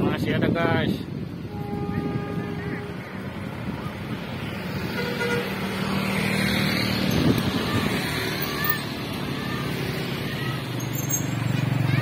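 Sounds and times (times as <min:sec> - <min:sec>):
vehicles passing: 0:00.0 - 0:12.0.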